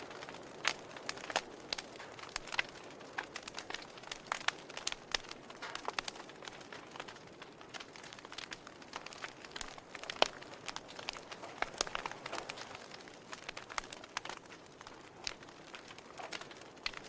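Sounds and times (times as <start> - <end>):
faint fire hiss: 0.0 - 17.0
wood fire crackling: 0.0 - 17.0.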